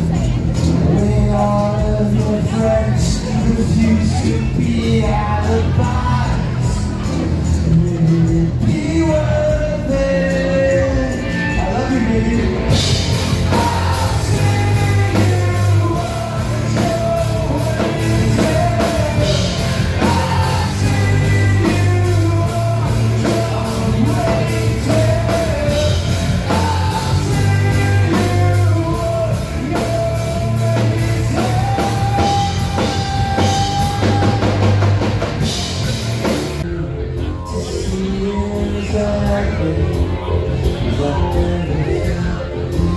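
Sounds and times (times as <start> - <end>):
rock music with singer: 0.0 - 42.9.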